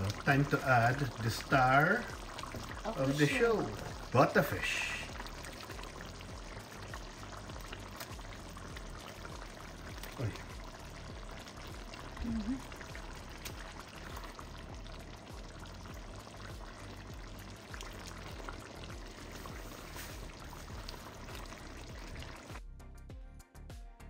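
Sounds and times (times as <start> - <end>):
gravy bubbling in a pan: 0.0 - 22.6.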